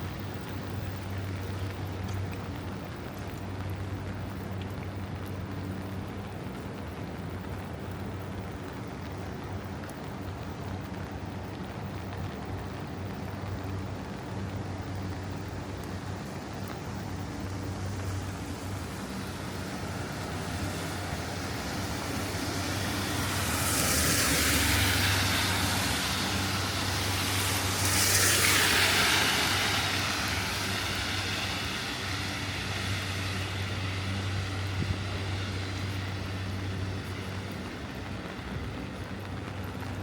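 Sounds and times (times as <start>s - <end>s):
low hum of traffic: 0.0s - 40.0s
tyres hissing on wet street: 0.0s - 40.0s.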